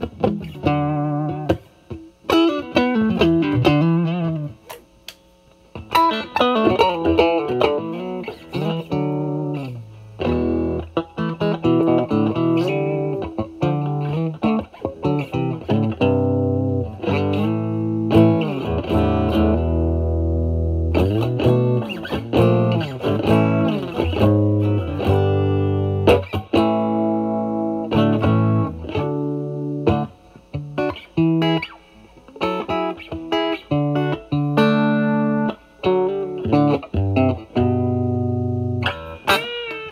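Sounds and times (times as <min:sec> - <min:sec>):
overdriven electric guitar blues: 0:00.0 - 0:39.9.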